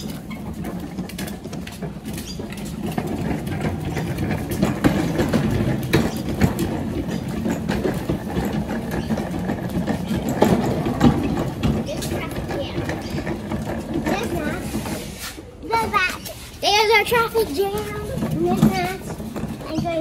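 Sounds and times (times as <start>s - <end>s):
rattles and clicks: 0.0s - 20.0s
toy ride-on car rumbling: 0.0s - 20.0s.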